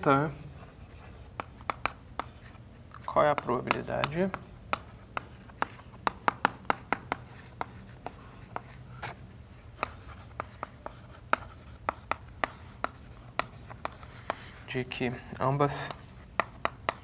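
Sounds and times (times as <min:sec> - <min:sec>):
chalk tapping and scratching: 0:00.0 - 0:14.8, 0:15.6 - 0:17.0.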